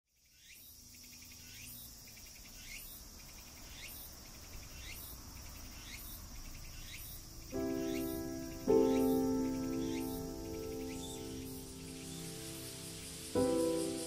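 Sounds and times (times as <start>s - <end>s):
insects buzzing: 0.1s - 14.0s
rising pulsing insect call: 0.2s - 14.0s.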